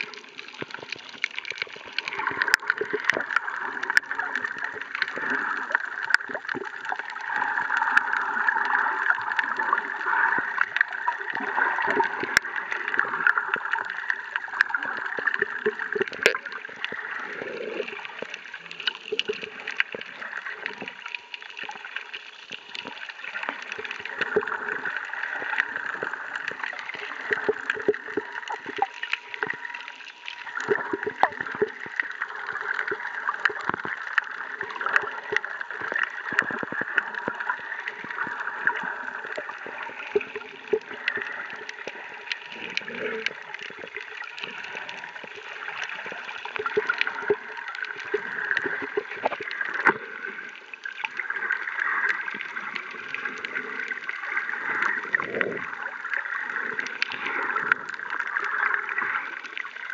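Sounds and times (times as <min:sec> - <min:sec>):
low water gurgles: 0:00.0 - 0:59.9
muffled rush of underwater: 0:00.0 - 0:59.9
sharp clicks and crackles: 0:00.0 - 0:59.9.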